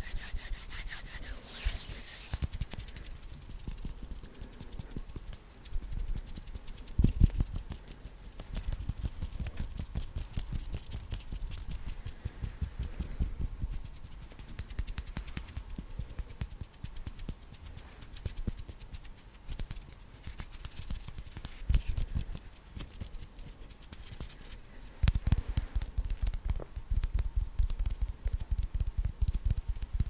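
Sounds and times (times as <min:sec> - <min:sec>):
hands rubbing and fluttering: 0:00.0 - 0:30.0.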